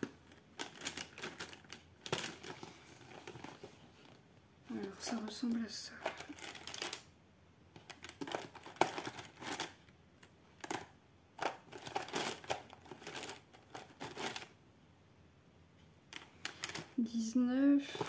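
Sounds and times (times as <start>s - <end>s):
pencils rustling in a box: 0.0s - 7.1s, 7.8s - 14.6s, 16.1s - 18.0s.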